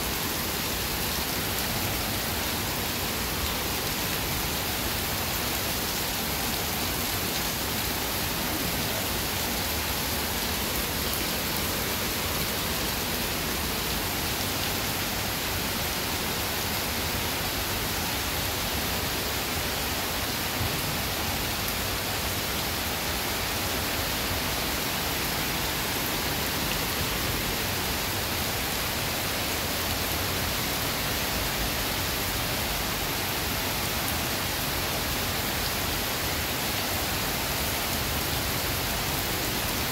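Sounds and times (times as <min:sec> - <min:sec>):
heavy rain on wet paving: 0:00.0 - 0:39.9.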